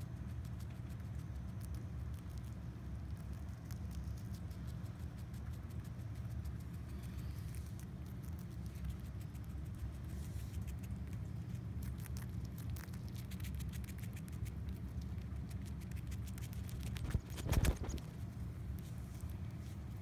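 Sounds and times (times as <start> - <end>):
rat chewing lettuce: 0.0 - 20.0
steady low hum: 0.0 - 20.0.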